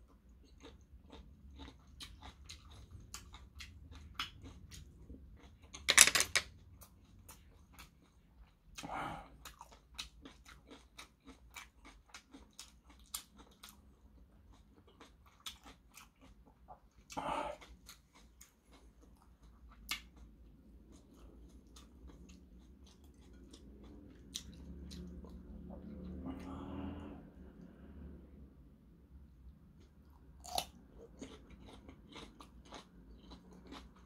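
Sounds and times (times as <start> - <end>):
person chewing food: 0.0 - 5.9, 6.5 - 27.7, 29.3 - 34.0.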